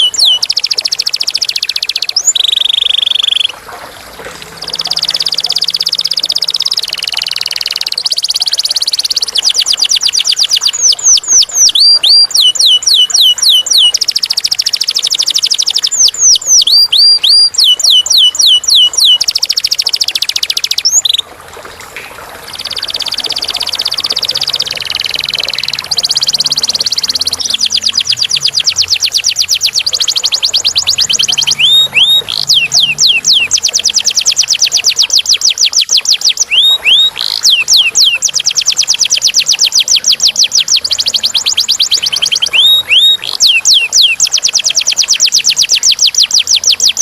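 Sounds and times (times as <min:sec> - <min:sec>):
canary singing trills: 0:00.0 - 0:03.6, 0:04.4 - 0:21.3, 0:22.5 - 0:47.0.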